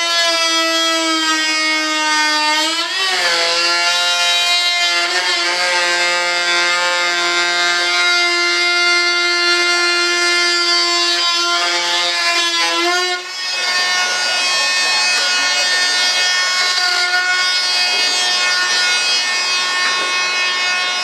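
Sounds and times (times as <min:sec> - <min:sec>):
rotary tool cutting fibreglass: 0:00.0 - 0:21.0.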